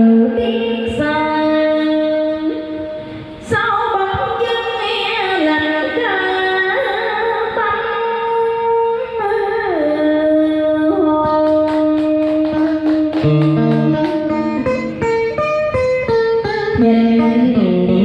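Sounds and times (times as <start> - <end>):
guitar plucking notes: 0.0 - 4.4, 5.6 - 18.0.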